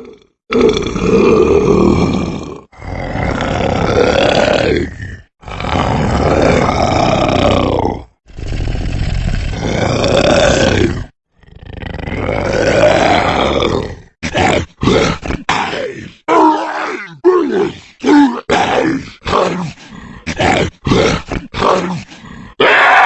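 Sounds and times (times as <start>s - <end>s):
monster grunting: 0.0s - 23.0s
monster roaring: 0.0s - 23.0s.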